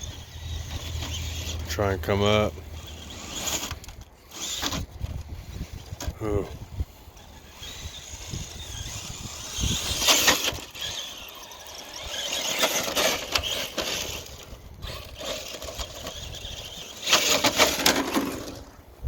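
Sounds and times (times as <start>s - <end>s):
electric motor whine: 0.0s - 18.7s
tyres scrabbling on loose dirt: 0.0s - 19.0s.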